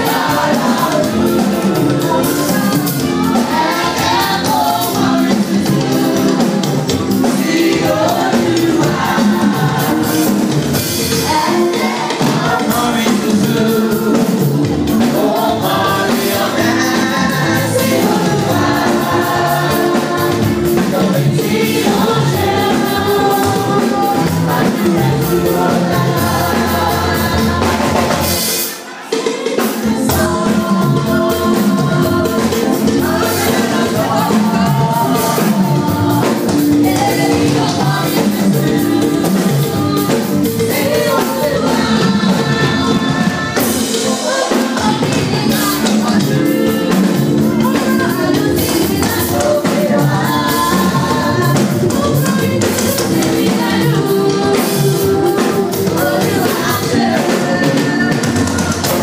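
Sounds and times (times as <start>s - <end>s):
children's choir singing: 0.0s - 59.0s
drums: 0.0s - 59.0s.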